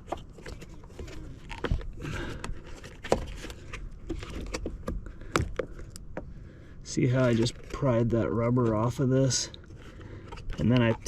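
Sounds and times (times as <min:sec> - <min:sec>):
rubber grommet clicking and scraping: 0:00.0 - 0:06.3, 0:07.2 - 0:11.0.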